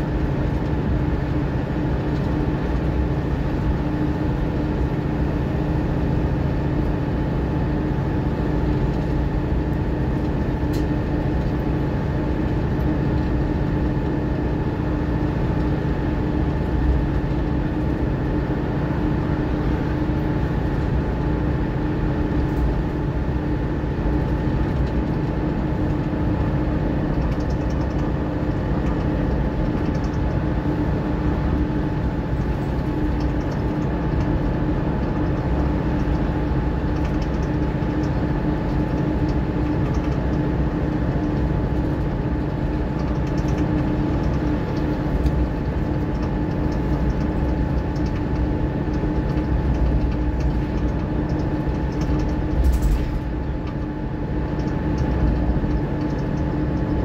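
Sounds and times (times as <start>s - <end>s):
bus diesel engine rumble: 0.0s - 57.0s
drivetrain whine: 0.0s - 57.0s.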